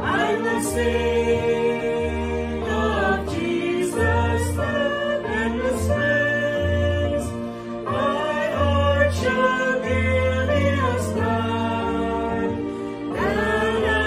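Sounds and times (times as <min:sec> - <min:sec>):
group singing a hymn: 0:00.0 - 0:14.0.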